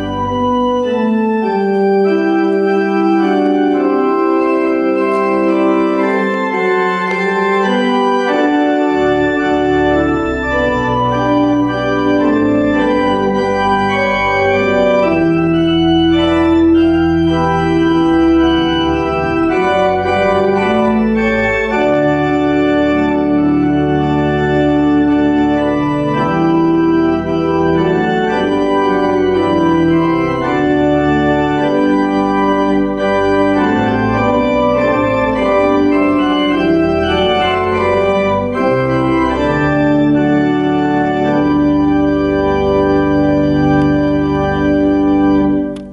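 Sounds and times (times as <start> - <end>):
church organ chords: 0.0 - 45.9.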